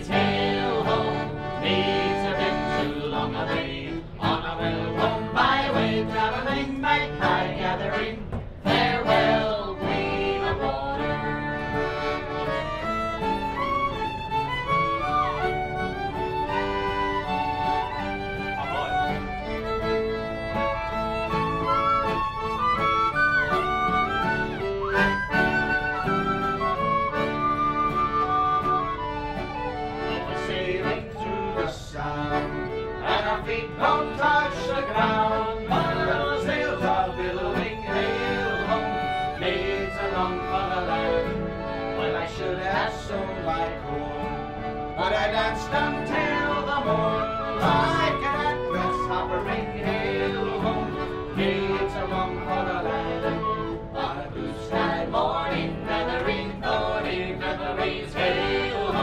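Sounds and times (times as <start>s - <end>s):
fiddle: 0.0s - 59.0s
strummed acoustic guitar: 0.0s - 59.0s
wooden whistle melody: 10.2s - 31.8s, 32.4s - 59.0s.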